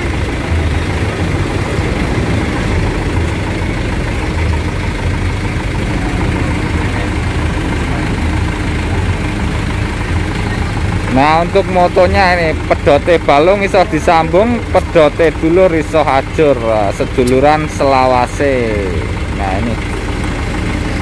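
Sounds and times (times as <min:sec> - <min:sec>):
diesel bus engine idling: 0:00.0 - 0:21.0.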